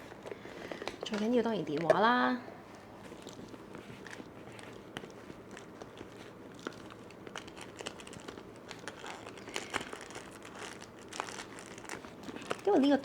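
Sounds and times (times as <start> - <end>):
crinkling: 0.0 - 13.0
items rustling in a handbag: 0.0 - 13.0.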